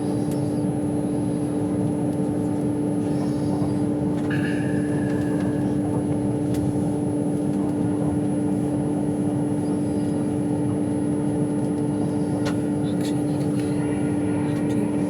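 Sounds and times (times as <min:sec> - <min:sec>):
train interior running noise: 0:00.0 - 0:15.0.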